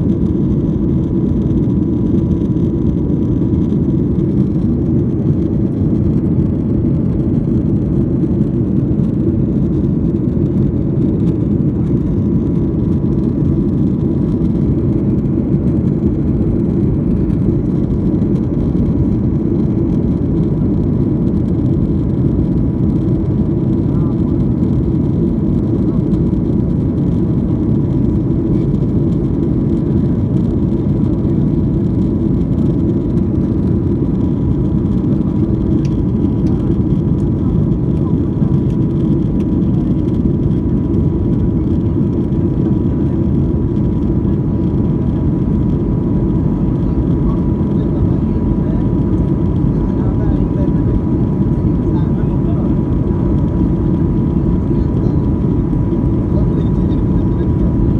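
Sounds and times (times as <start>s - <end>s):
airplane cabin engine noise: 0.0s - 57.9s.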